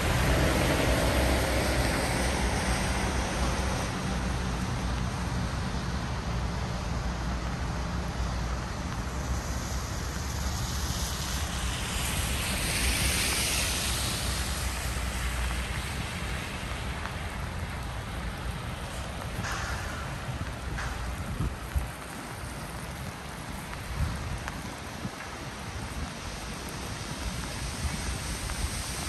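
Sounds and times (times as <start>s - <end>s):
low rumble of city traffic: 0.0s - 29.0s
tyres hissing on wet road: 0.0s - 29.0s.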